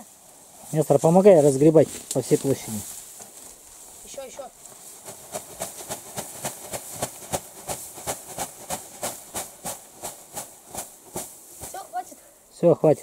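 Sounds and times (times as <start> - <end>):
straw shaken from sack rustling: 0.0 - 12.2.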